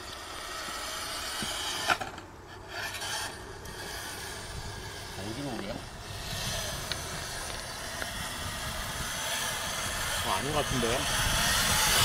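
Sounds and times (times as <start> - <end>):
drivetrain whirring: 0.0 - 12.0
tyres scraping on gritty dirt: 0.0 - 12.0.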